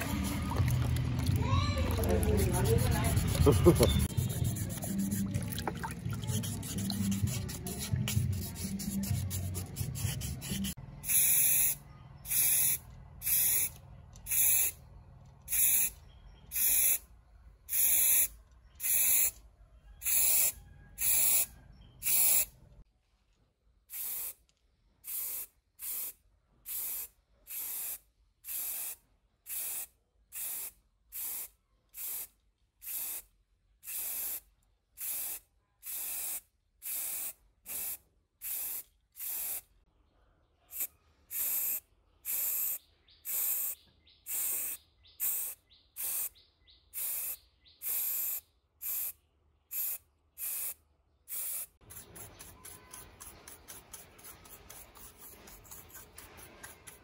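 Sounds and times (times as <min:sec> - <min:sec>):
spray paint hissing: 0:00.0 - 0:05.5, 0:06.1 - 0:14.8, 0:15.5 - 0:17.0, 0:17.7 - 0:19.4, 0:20.0 - 0:22.5, 0:23.9 - 0:24.4, 0:25.0 - 0:33.2, 0:33.8 - 0:34.4, 0:35.0 - 0:39.6, 0:40.7 - 0:46.4, 0:47.0 - 0:57.0.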